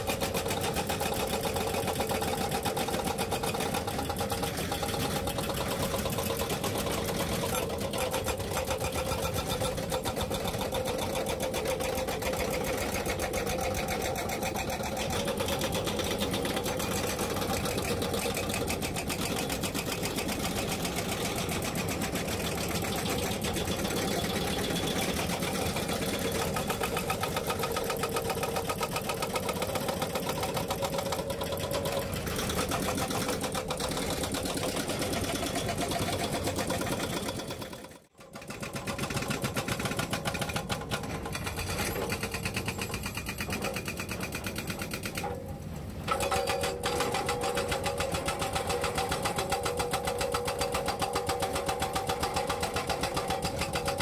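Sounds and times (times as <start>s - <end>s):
diesel engines running: 0.0s - 54.0s
hydraulic breakers hammering rock: 0.0s - 54.0s.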